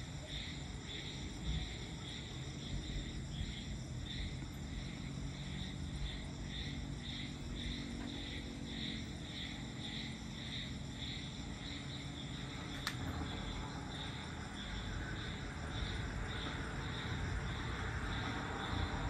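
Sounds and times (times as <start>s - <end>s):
low steady rumble: 0.0s - 19.0s
night insects chirping: 0.0s - 19.0s.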